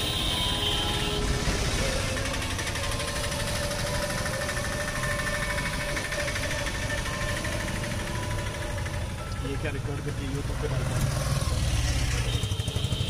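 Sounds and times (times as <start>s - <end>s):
engine clatter: 0.0s - 13.0s
street traffic rumble: 0.0s - 13.0s.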